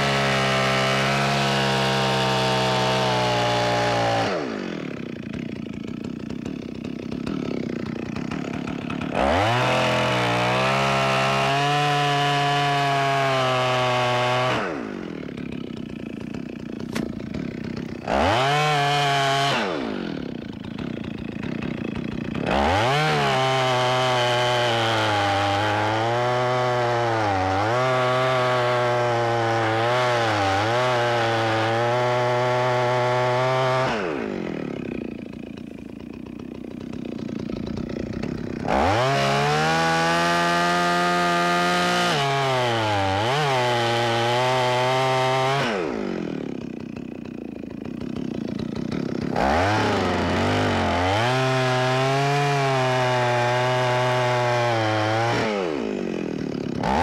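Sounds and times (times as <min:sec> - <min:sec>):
chainsaw cutting tree: 0:00.0 - 0:57.0.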